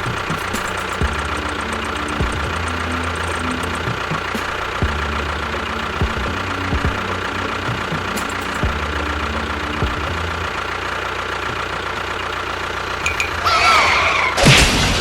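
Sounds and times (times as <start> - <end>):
small motor humming and whining: 0.0 - 14.4.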